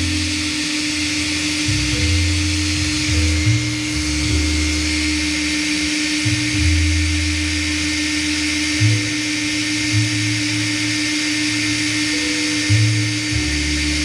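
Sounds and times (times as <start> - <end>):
small power tool whining: 0.0 - 14.0.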